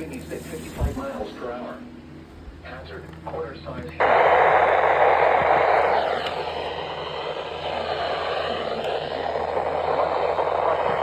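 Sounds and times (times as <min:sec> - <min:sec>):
radio static hiss: 0:00.0 - 0:01.8, 0:02.6 - 0:11.0.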